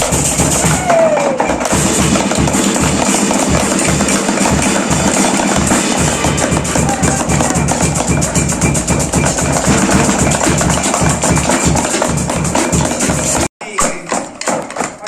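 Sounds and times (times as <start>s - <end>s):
drum kit playing fast groove: 0.0s - 13.5s
music: 0.0s - 13.5s.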